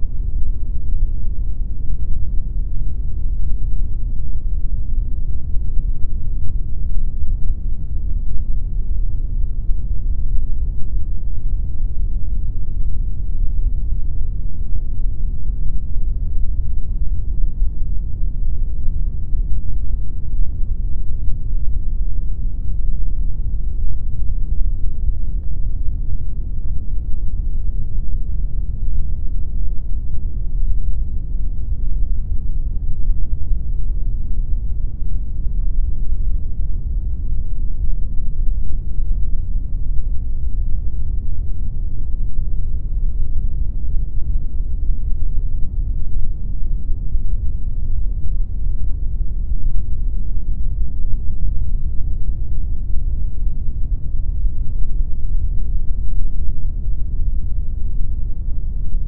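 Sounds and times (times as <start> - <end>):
steady pink noise: 0.0 - 59.0.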